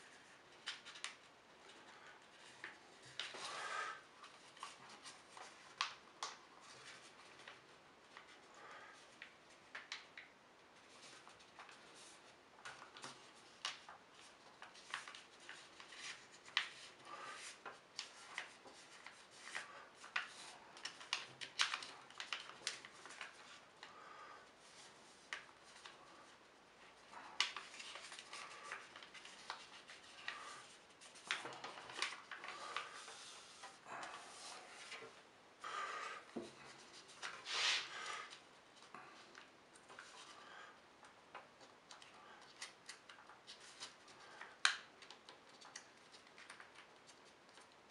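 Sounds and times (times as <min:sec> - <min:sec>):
paper rustling and crackling: 0:00.0 - 0:23.9, 0:24.6 - 0:35.2, 0:41.4 - 0:47.9.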